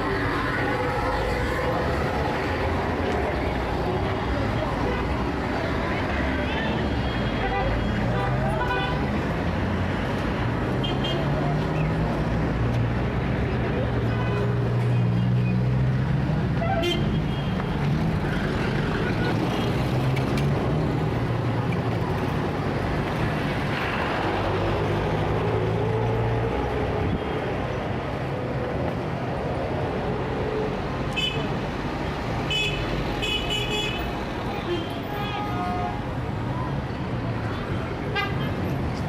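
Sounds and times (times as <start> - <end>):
heavy street traffic: 0.0 - 39.0.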